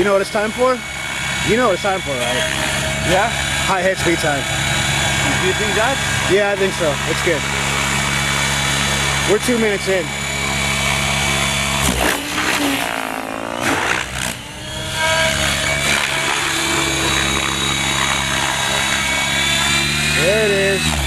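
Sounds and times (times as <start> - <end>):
model helicopter rotor whining: 0.0 - 21.0.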